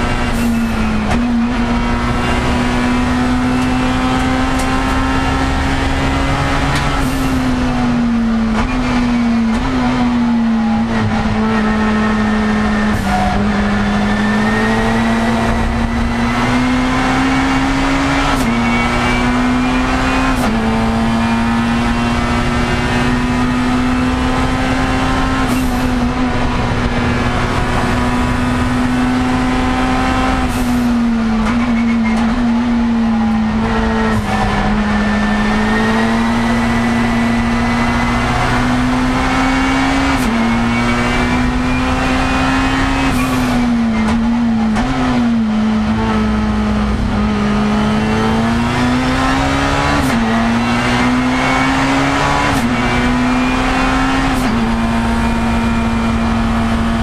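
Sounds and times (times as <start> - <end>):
race car engine at high revs: 0.0 - 57.0
road and wind noise: 0.0 - 57.0.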